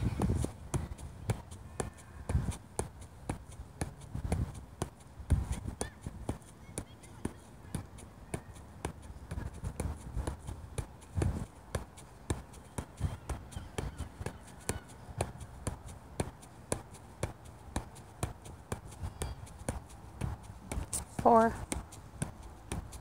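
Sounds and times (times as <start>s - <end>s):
light taps of ball juggling: 0.0s - 23.0s.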